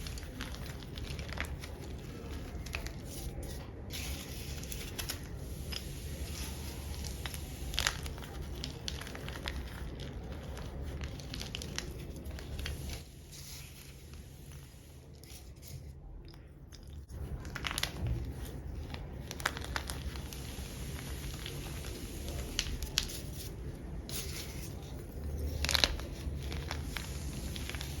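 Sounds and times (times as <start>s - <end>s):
chalk crunching and crumbling: 0.0s - 28.0s.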